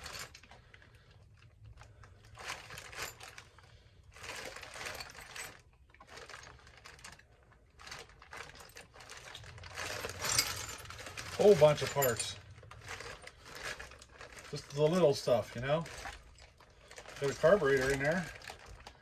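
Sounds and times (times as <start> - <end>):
metal parts rattling in a bag: 0.0 - 19.0.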